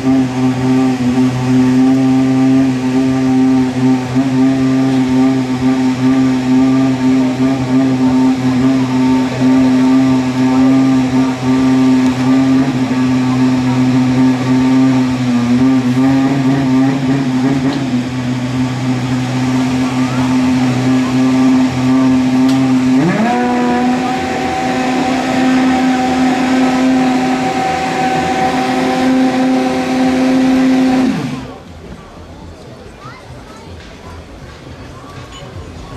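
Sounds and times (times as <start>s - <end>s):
racing car engine revving: 0.0s - 32.3s.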